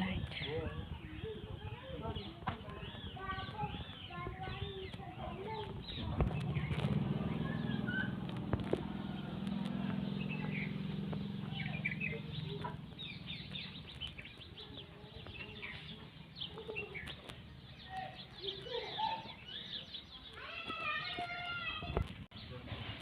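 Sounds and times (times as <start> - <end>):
birds chirping and twittering: 0.0 - 23.0.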